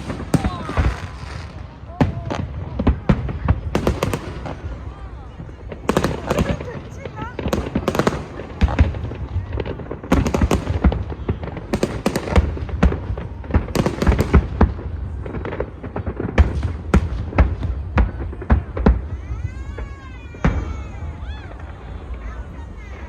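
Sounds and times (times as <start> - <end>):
fireworks bangs and booms: 0.0 - 23.0.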